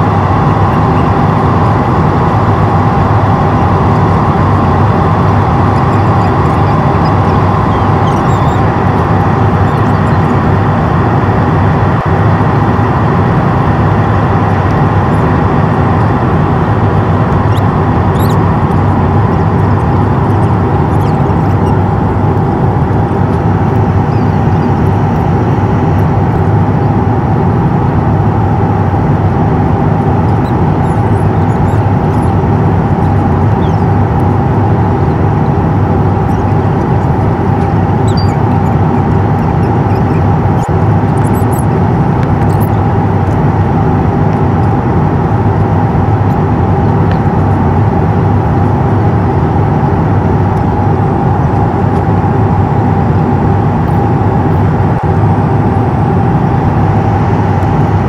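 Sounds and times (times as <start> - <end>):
airplane cabin engine drone: 0.0 - 58.0
steady hums: 0.0 - 58.0.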